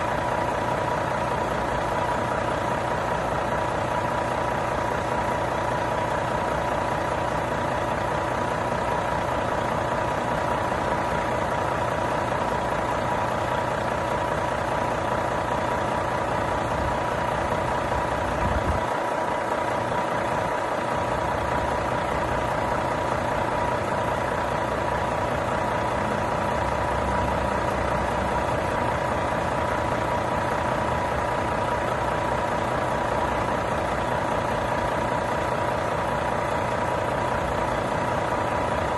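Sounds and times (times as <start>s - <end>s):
constant whine: 0.0s - 38.9s
diesel truck engine idling: 0.0s - 38.9s.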